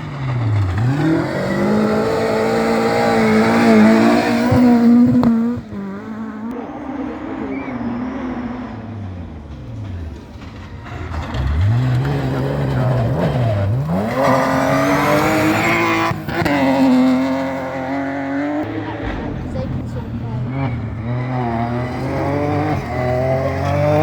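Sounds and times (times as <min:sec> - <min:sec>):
rally car engine accelerating: 0:00.0 - 0:24.0.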